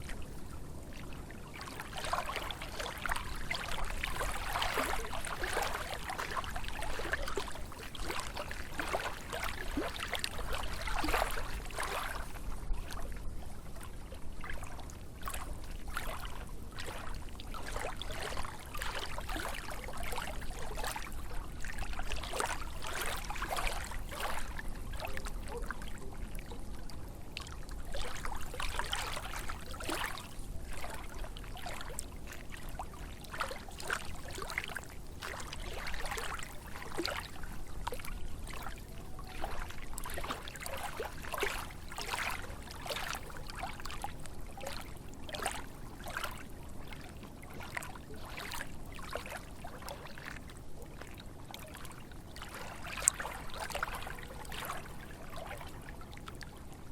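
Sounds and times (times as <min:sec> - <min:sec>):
lake waves lapping and splashing: 0:00.0 - 0:56.9.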